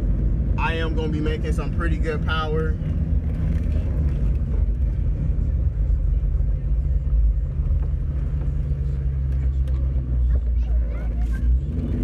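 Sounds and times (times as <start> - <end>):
car engine deep rumble: 0.0 - 12.0.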